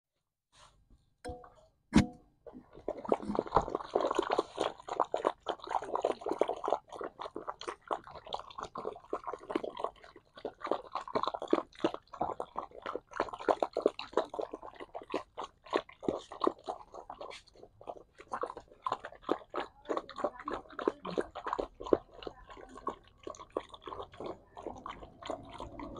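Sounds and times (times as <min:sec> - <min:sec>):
dogs chewing food: 0:03.6 - 0:25.9.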